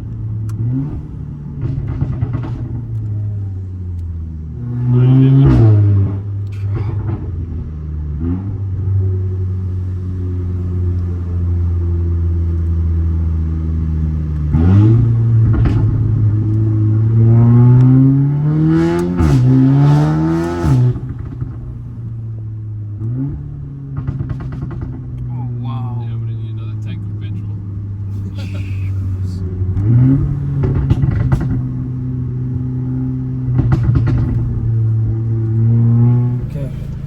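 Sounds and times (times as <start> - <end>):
car engine and exhaust: 0.0 - 37.0.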